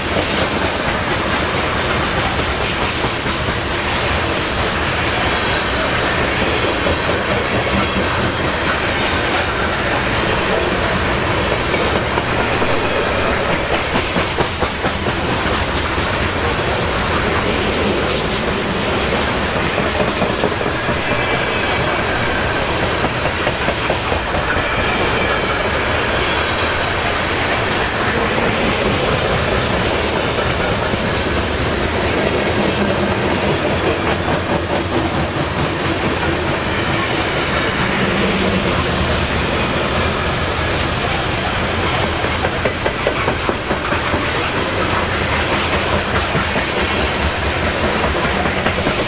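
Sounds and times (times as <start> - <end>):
wheels clacking over rails: 0.0 - 49.0.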